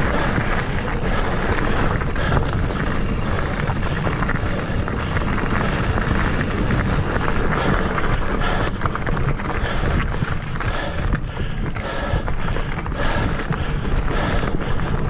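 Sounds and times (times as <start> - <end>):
bike clicking and rattling: 0.0 - 15.0
bike tyre noise: 0.0 - 15.0.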